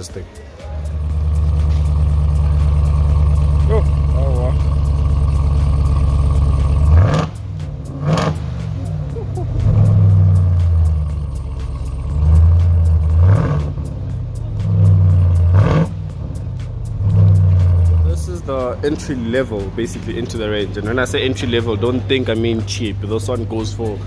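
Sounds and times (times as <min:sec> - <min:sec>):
truck engine revving: 0:00.6 - 0:24.0.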